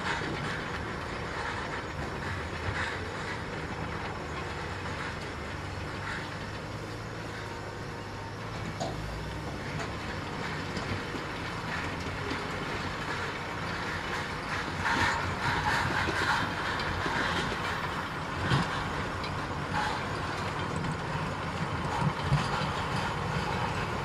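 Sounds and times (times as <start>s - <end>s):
bulldozer diesel drone: 0.0s - 24.0s
steel tracks clanking: 0.0s - 24.0s.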